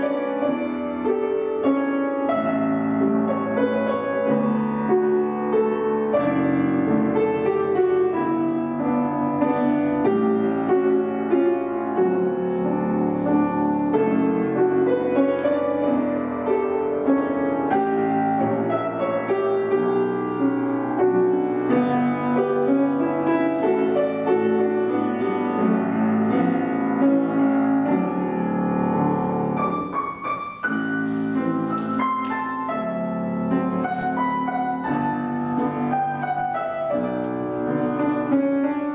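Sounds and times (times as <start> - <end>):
classical piano music: 0.0 - 38.9.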